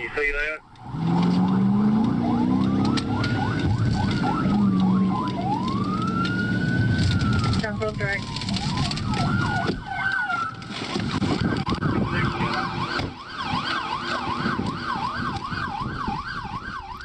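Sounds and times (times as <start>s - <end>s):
emergency siren wailing and yelping: 0.6s - 17.0s.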